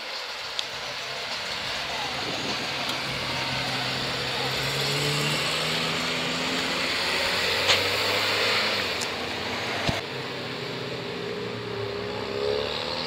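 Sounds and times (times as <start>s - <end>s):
car engine pulling away: 0.1s - 13.0s.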